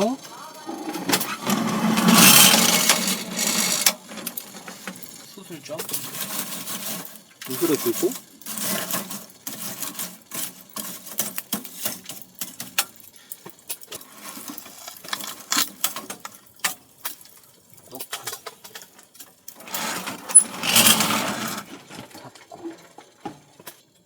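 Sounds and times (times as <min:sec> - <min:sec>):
logs loaded into firebox: 0:00.8 - 0:23.8.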